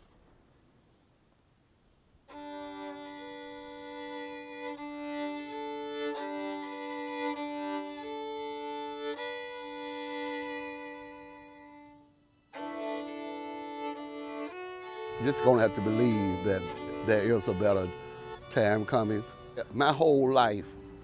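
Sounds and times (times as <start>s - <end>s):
violin playing slow melody: 2.3s - 21.0s.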